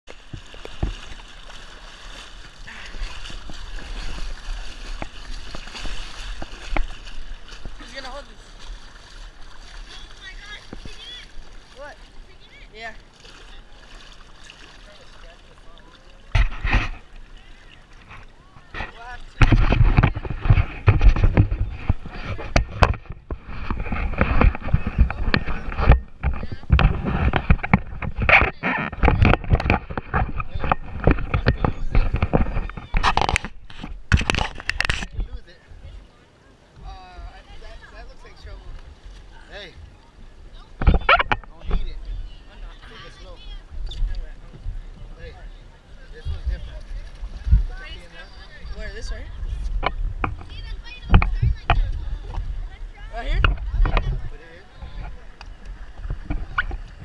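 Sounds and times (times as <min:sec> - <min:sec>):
river water splashing: 0:00.0 - 0:57.0.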